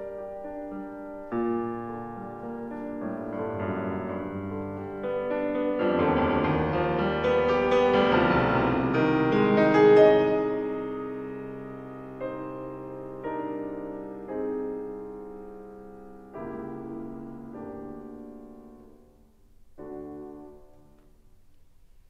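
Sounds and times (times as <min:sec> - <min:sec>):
slow quiet piano chords: 0:00.0 - 0:22.0.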